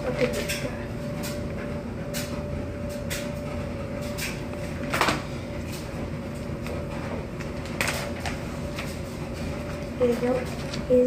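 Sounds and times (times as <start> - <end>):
laundry machine running: 0.0 - 11.0.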